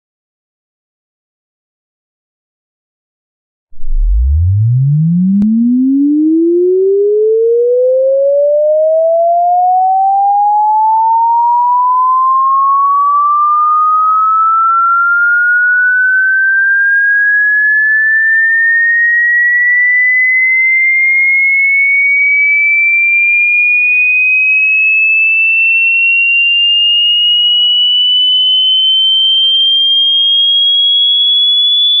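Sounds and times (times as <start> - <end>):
rising electronic sine tone: 3.7 - 32.0.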